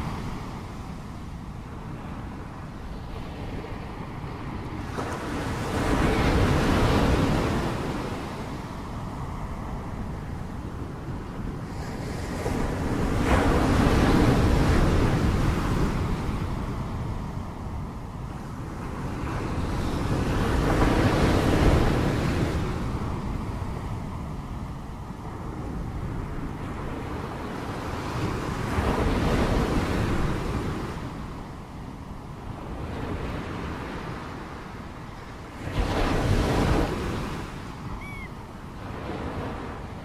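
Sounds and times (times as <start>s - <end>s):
waves breaking and washing in: 0.0s - 40.0s.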